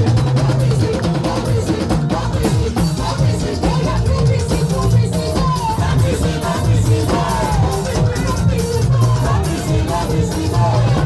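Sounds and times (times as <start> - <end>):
bass line: 0.0 - 11.0
drum kit beating: 0.0 - 11.0
live band dance music: 0.0 - 11.0
person singing: 0.0 - 11.0.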